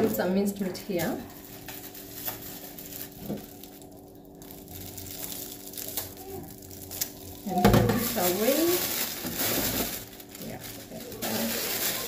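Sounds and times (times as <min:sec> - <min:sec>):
faint steady hum: 0:00.0 - 0:12.0
plastic packaging crinkling: 0:00.0 - 0:12.0.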